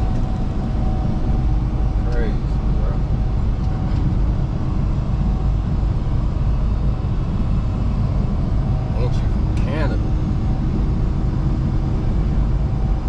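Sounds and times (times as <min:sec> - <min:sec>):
road noise: 0:00.0 - 0:13.0
semi-truck engine rumble: 0:00.0 - 0:13.0.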